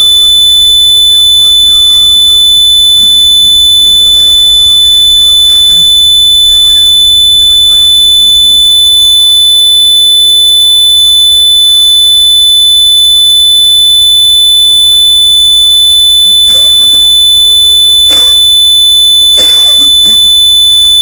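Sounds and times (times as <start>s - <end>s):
high-pitched electronic alarm tone: 0.0s - 21.0s.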